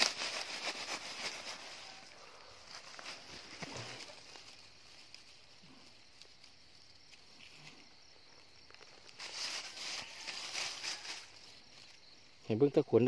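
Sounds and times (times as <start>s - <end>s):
night insects chirring: 0.0s - 13.0s
rustling of dry grass: 0.0s - 13.0s.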